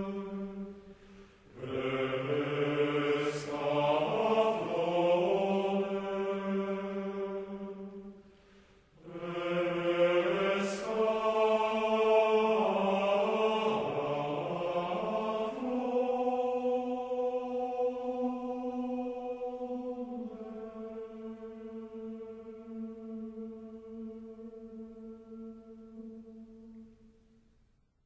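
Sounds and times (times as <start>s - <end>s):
chanted choral voices: 0.0s - 27.4s.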